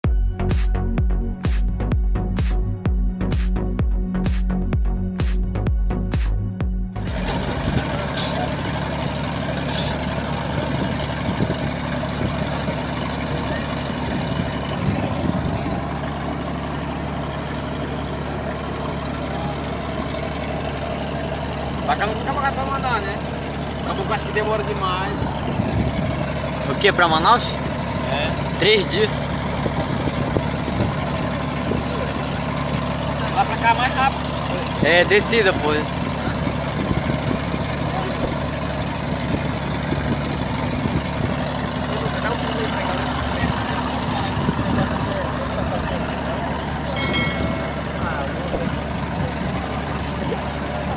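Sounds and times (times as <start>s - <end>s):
boat engine droning: 0.0s - 50.9s.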